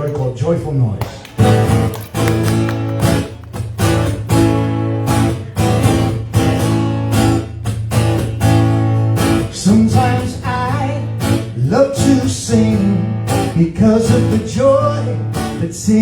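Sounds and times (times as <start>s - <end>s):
acoustic guitar strumming chords: 1.3s - 15.9s.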